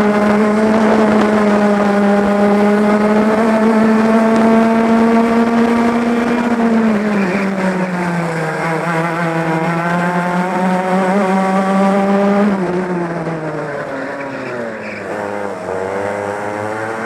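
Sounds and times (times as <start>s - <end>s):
two-stroke kart engine: 0.0s - 17.0s.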